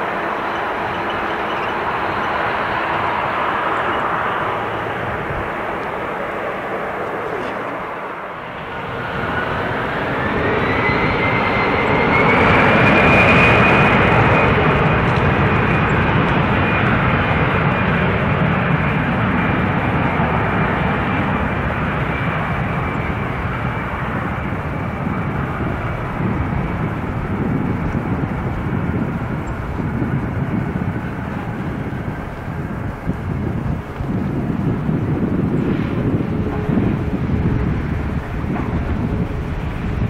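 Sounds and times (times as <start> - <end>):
jet engines spooling up: 0.0 - 40.0.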